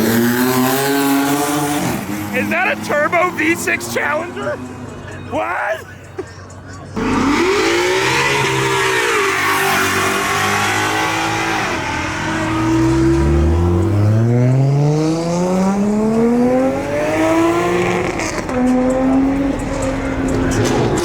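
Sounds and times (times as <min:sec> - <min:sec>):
car engine accelerating: 0:00.0 - 0:05.2, 0:07.0 - 0:21.0.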